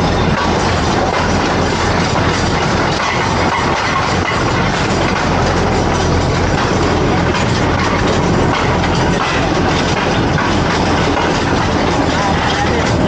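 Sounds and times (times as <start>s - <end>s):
train engine and wheels on rail: 0.0s - 13.0s.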